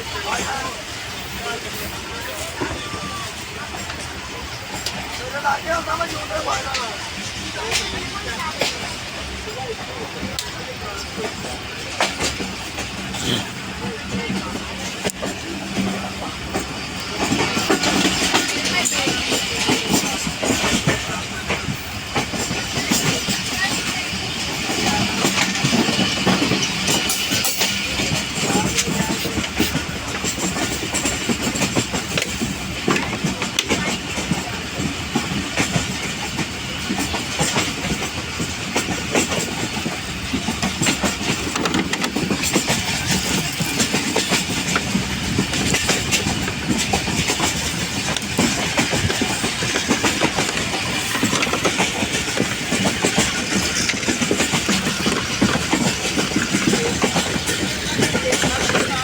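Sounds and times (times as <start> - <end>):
train rumbling along track: 0.0 - 59.0
train wheels clattering: 0.0 - 59.0.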